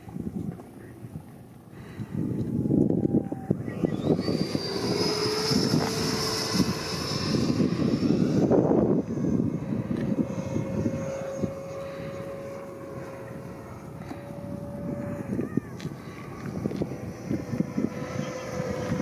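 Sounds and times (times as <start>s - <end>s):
electric ducted fan whining: 0.0s - 19.0s
lower steady tone: 0.0s - 19.0s
wind rumble on microphone: 0.0s - 19.0s.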